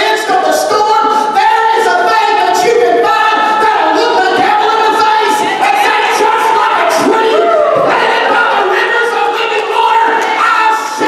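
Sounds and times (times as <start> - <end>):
man singing through microphone: 0.0 - 11.0.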